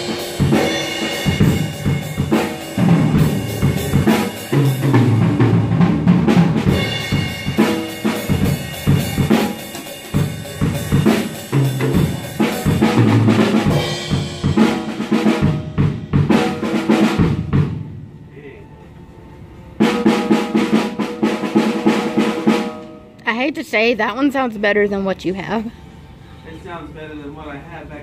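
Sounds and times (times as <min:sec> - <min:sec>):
drum kit fast groove: 0:00.0 - 0:18.2, 0:19.8 - 0:25.6.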